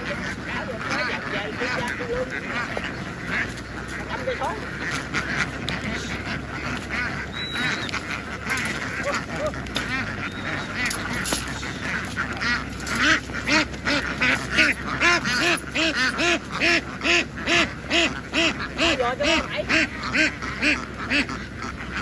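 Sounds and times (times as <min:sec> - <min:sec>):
duck quacking steadily: 0:00.0 - 0:22.0
flock of ducks quacking: 0:00.0 - 0:22.0.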